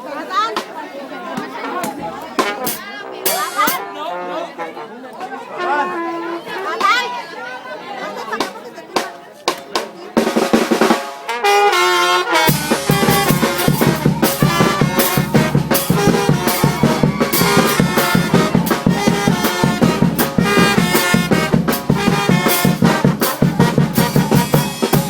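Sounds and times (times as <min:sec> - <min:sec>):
cumbia band with brass: 0:00.0 - 0:25.0.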